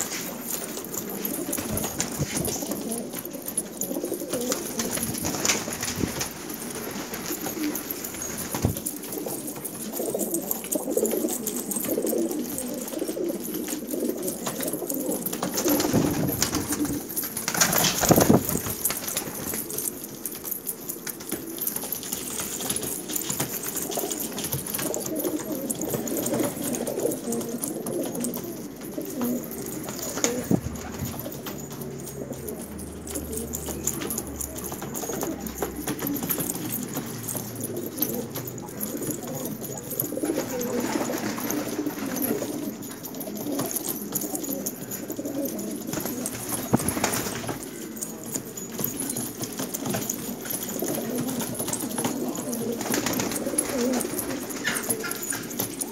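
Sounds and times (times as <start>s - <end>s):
pigeons cooing: 0.0s - 55.9s.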